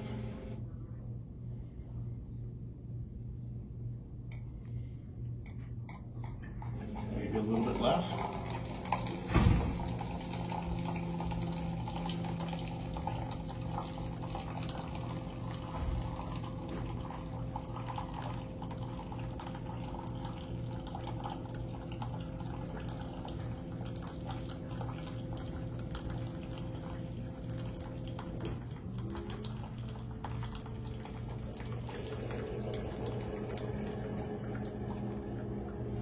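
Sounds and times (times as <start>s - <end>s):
coffee machine pump humming: 0.0s - 1.0s, 3.8s - 36.0s
coffee dripping into cup: 5.5s - 36.0s.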